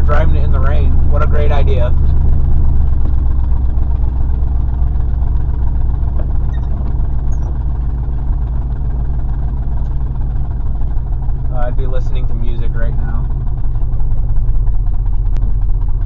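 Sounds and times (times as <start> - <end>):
misfiring truck engine rumble: 0.0 - 16.0.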